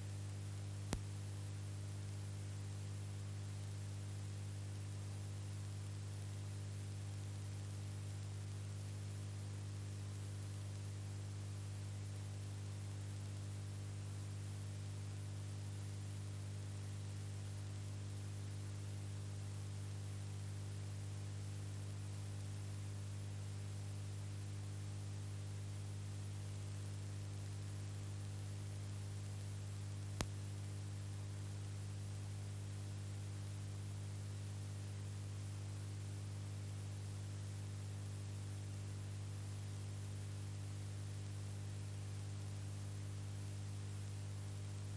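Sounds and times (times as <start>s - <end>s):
electrical hum with hiss: 0.0s - 44.9s.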